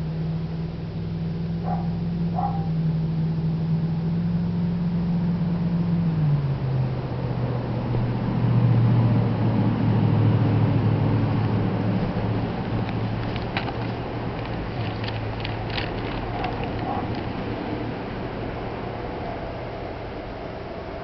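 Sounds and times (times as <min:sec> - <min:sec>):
engine hum: 0:00.0 - 0:21.0.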